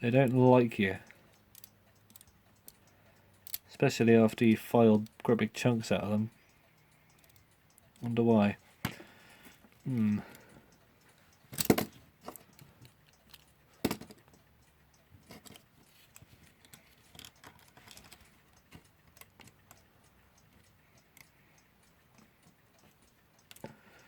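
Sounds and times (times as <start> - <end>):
small tools clicking and tapping: 0.0 - 5.4, 7.1 - 8.2, 8.8 - 14.5, 15.1 - 21.4, 22.0 - 24.0.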